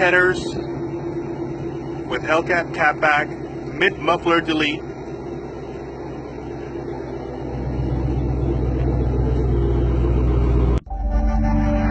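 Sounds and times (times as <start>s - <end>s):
car engine rumbling: 0.0s - 10.9s.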